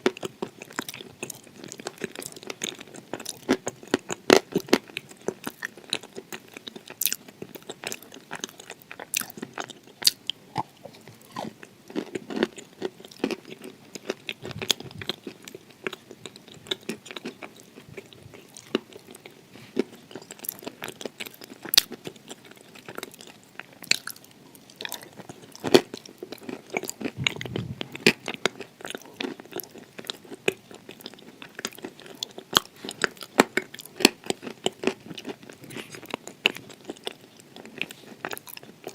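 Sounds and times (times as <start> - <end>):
chewing dry clay: 0.0 - 38.9.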